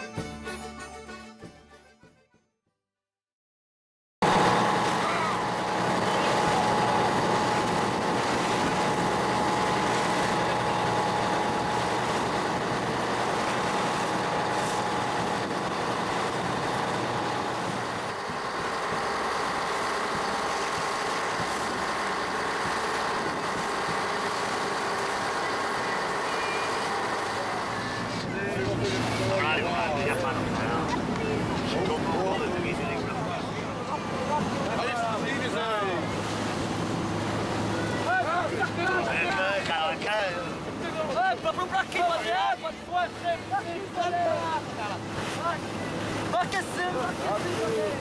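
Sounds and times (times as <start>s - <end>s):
boat engine droning: 4.2s - 48.0s
water splashing along hull: 4.2s - 48.0s.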